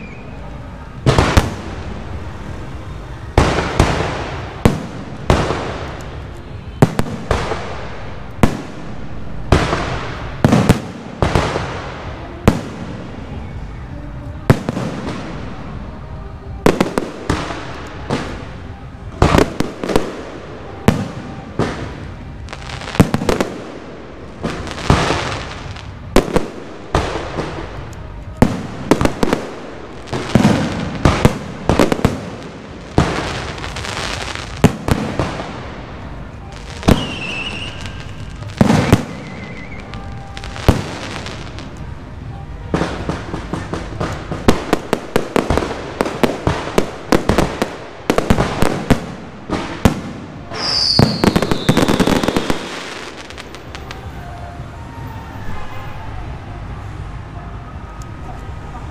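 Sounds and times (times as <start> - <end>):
fireworks crackle: 0.0 - 56.2
fireworks bangs echoing: 0.9 - 13.6, 14.2 - 55.8.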